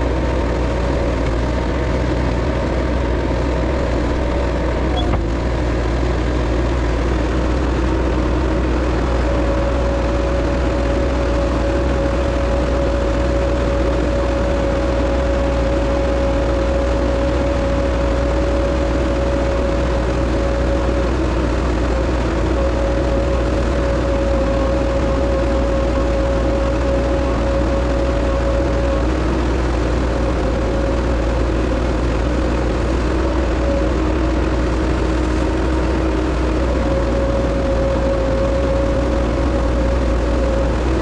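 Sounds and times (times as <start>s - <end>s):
high whine: 0.0s - 41.0s
skid steer engine running: 0.0s - 41.0s.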